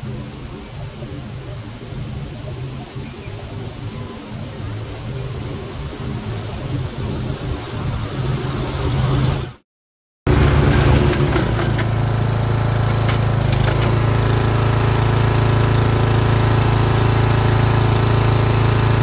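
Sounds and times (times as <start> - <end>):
riding mower engine running: 0.0 - 9.5, 10.3 - 19.0.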